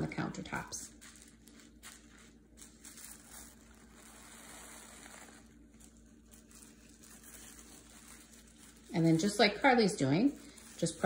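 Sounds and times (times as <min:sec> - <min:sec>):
bubble wrap rustling: 0:00.0 - 0:11.0
low steady hum: 0:00.0 - 0:11.0.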